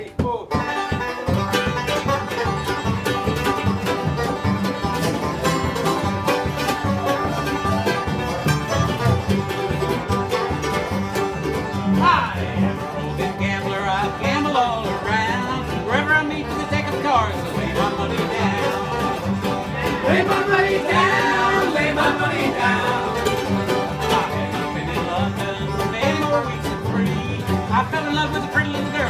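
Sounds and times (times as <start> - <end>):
banjo and guitar picking: 0.0 - 29.0.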